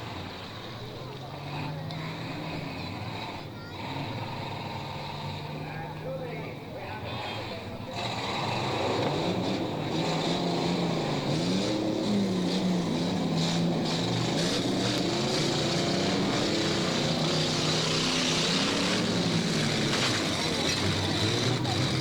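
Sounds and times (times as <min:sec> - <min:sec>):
stock car engines revving: 0:00.0 - 0:22.0.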